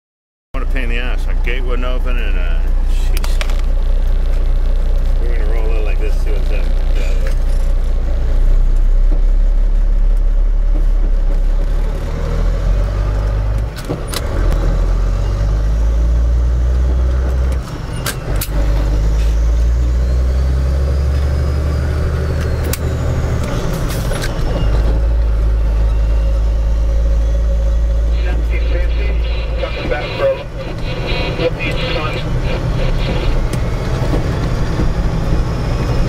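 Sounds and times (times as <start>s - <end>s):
truck engine running: 0.6s - 36.0s.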